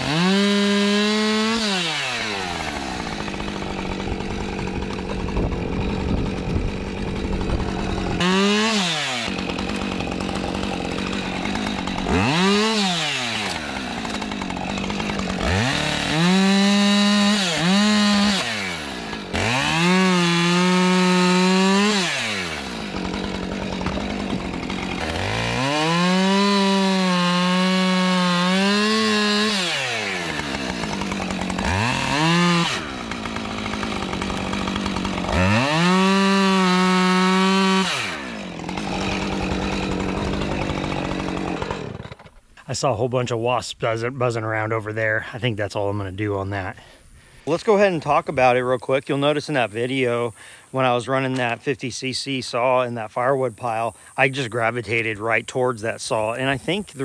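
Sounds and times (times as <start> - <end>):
chainsaw cutting wood: 0.0 - 42.6, 46.4 - 51.8, 52.9 - 57.0.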